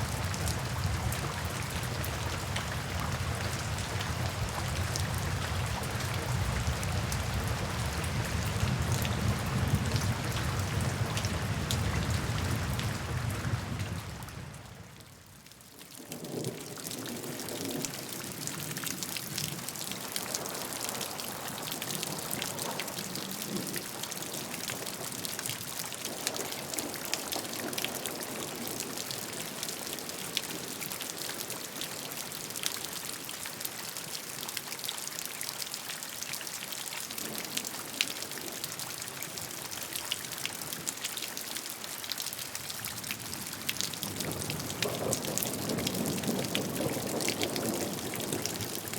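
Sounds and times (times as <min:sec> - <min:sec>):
raindrops ticking close by: 0:00.0 - 0:48.9
steady rain: 0:00.0 - 0:48.9.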